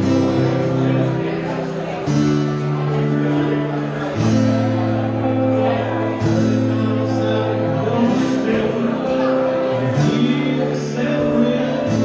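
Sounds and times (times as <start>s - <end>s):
acoustic band playing: 0.0s - 12.0s
acoustic guitars: 0.0s - 12.0s.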